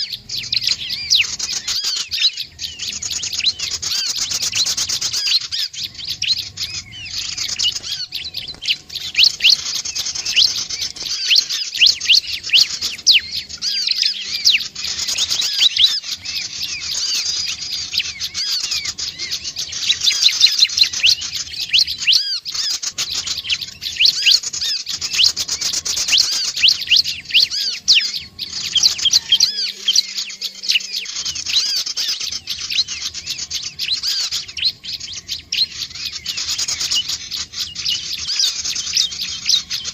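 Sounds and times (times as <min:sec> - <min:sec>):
prinia chirping: 0:00.0 - 0:39.9.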